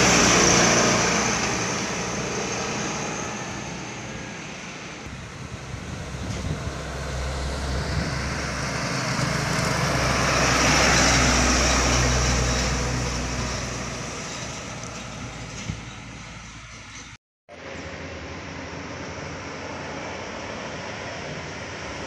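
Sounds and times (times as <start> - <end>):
truck diesel engine humming: 0.0 - 22.0.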